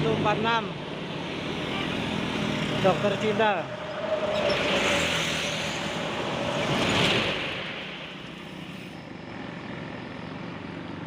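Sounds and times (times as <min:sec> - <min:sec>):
bus engine and tyre noise: 0:00.0 - 0:11.0.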